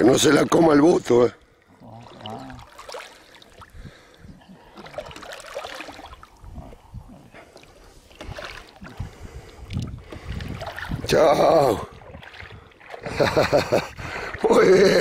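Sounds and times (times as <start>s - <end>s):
water lapping around boat: 0.0s - 15.0s.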